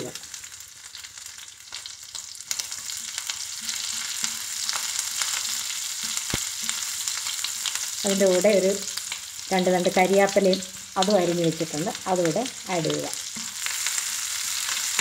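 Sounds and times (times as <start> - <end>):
chillies sizzling in ghee: 0.0 - 15.0.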